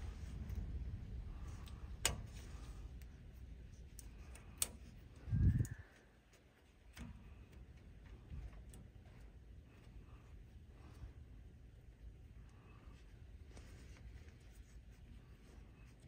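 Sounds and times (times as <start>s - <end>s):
low wind rumble: 0.0s - 15.9s.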